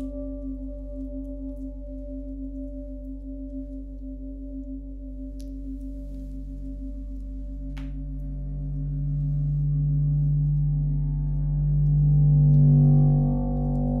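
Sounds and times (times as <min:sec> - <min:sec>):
gongs and singing bowls ringing: 0:00.0 - 0:14.0.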